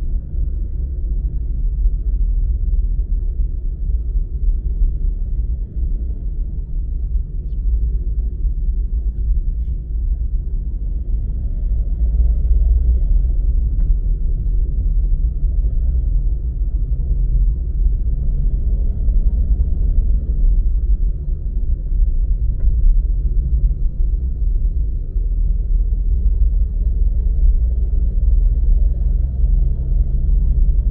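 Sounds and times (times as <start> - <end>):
car interior road and engine noise: 0.0 - 30.9.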